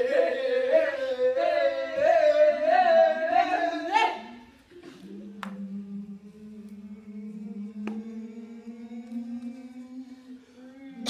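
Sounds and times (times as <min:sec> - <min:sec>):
voices chanting a low hum: 0:00.0 - 0:11.0.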